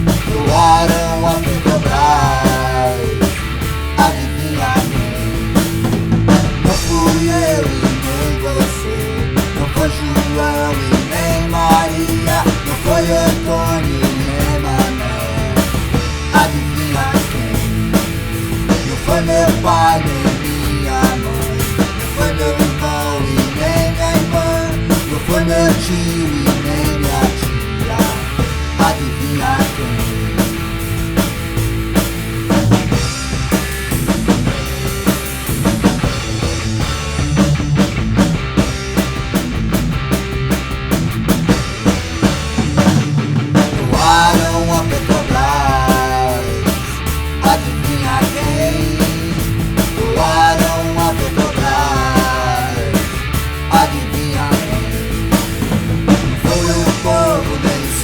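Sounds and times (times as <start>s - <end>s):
drum kit beat: 0.0s - 58.0s
rock band playing: 0.0s - 58.0s.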